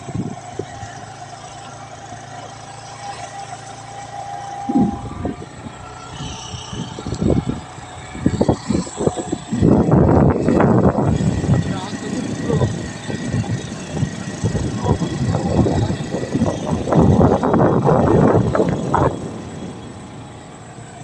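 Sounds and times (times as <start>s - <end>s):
wind buffeting microphone: 0.0s - 1.0s, 4.4s - 20.8s
vehicle engine humming: 0.0s - 21.0s.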